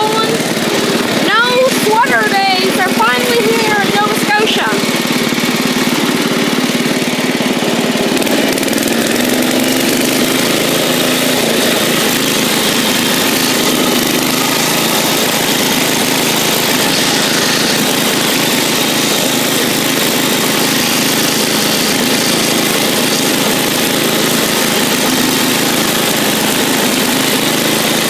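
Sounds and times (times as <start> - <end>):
garden tractor engine running: 0.0 - 28.0.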